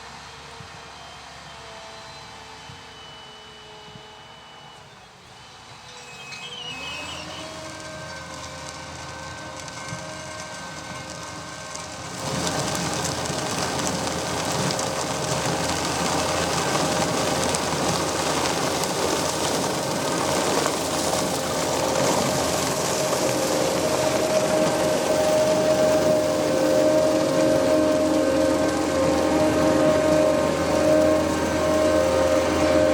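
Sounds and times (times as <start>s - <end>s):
dense machinery noise: 0.0s - 32.9s
harvester engine running: 5.6s - 32.9s.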